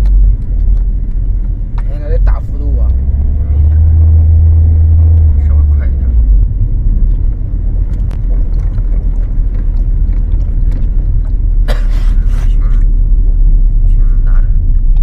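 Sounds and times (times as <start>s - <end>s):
car interior low rumble: 0.0s - 15.0s.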